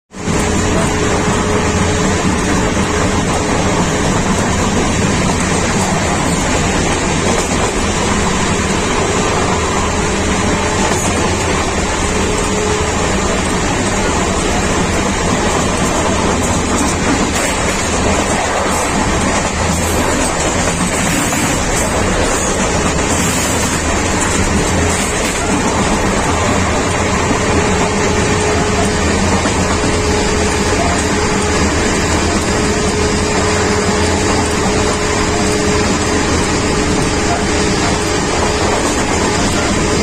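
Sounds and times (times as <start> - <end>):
train wheels rumbling on track: 0.1 - 40.0.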